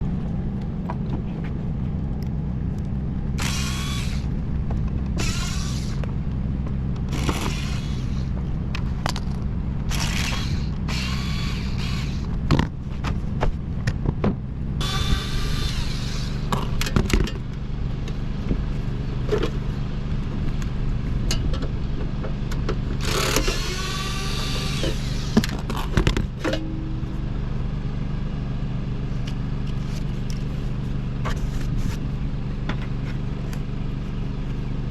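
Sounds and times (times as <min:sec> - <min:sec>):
machine humming: 0:00.0 - 0:12.6, 0:14.5 - 0:34.6.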